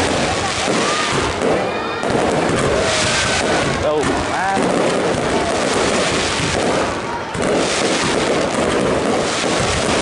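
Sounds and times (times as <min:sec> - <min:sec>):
fireworks bursting and crackling: 0:00.0 - 0:10.0.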